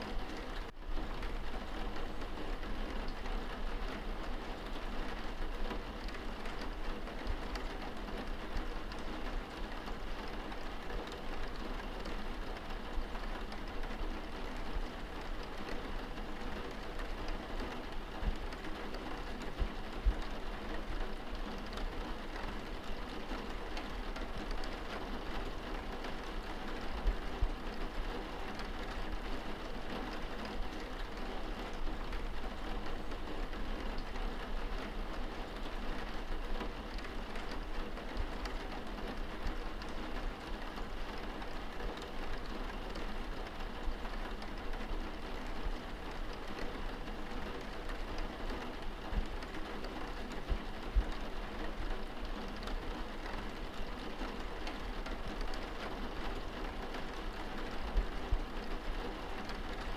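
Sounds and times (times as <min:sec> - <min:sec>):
rain pattering on window glass: 0:00.0 - 0:59.9.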